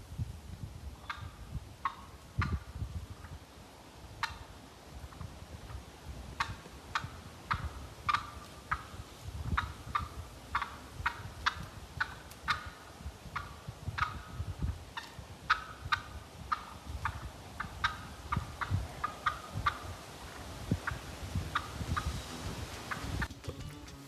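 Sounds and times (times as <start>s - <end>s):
turkeys clucking: 1.0s - 3.3s, 5.2s - 24.0s.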